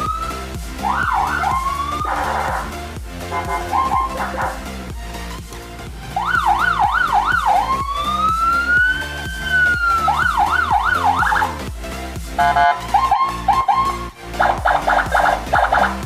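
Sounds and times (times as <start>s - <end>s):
electronic siren yelp and wail: 0.0s - 4.6s, 6.2s - 11.6s, 12.4s - 16.0s
background music with steady beat: 0.0s - 16.0s.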